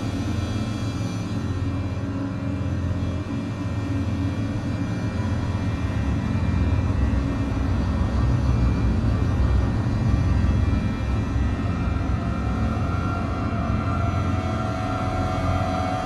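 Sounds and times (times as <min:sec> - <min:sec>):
dark droning film score: 0:00.0 - 0:16.0.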